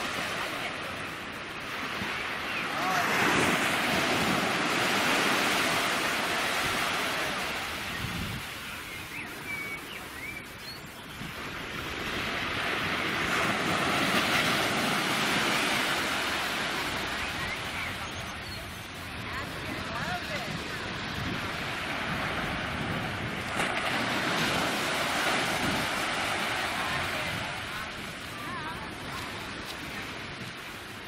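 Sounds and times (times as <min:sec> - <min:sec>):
small waves breaking on beach: 0:00.0 - 0:31.0.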